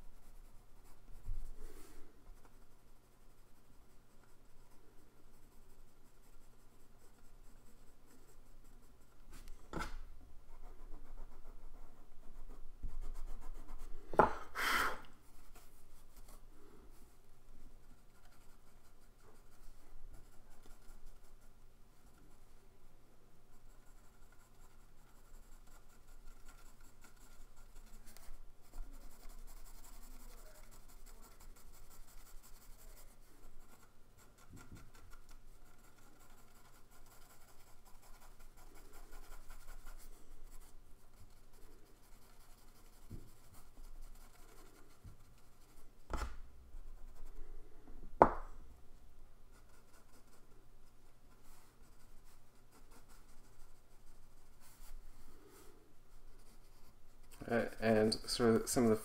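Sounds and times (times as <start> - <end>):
pencil scratching on paper: 0.1 - 9.9, 10.5 - 14.3, 17.8 - 22.4, 23.5 - 47.4, 49.5 - 50.5, 51.3 - 58.6.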